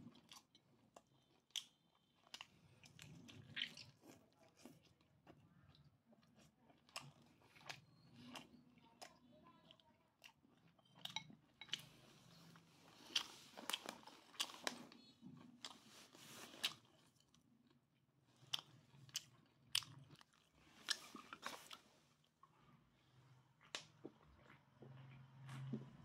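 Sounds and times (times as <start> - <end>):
person chewing with wet smacks: 0.0 - 26.0.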